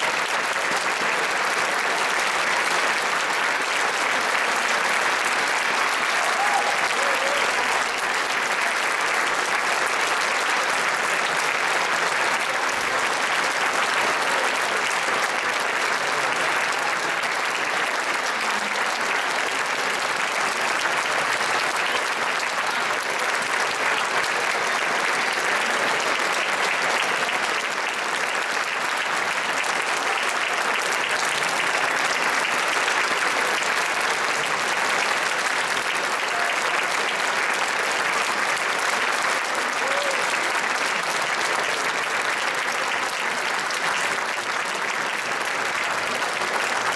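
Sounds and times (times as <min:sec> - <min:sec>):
audience applauding: 0:00.0 - 0:46.9.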